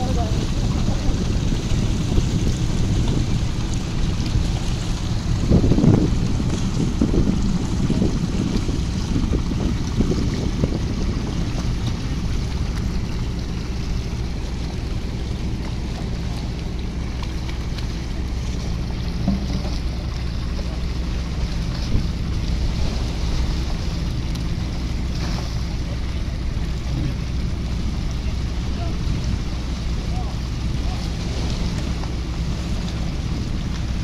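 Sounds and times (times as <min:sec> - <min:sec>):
boat engine humming: 0:00.0 - 0:34.0
wind and sea hiss: 0:00.0 - 0:34.0.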